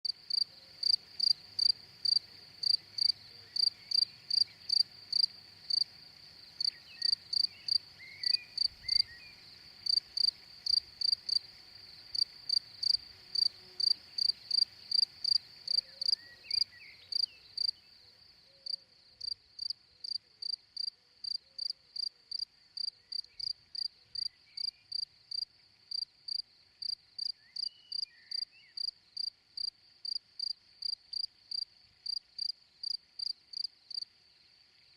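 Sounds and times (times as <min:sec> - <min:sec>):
cricket chirping: 0:00.0 - 0:34.9.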